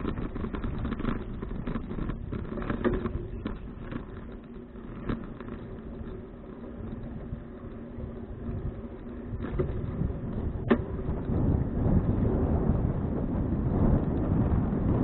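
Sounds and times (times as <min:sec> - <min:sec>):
bicycle click: 0:00.0 - 0:15.0
wind rumbling on microphone: 0:00.0 - 0:15.0.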